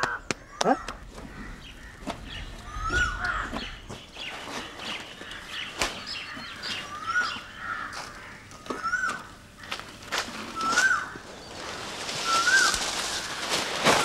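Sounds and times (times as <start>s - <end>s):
birds cawing: 0.0s - 14.0s.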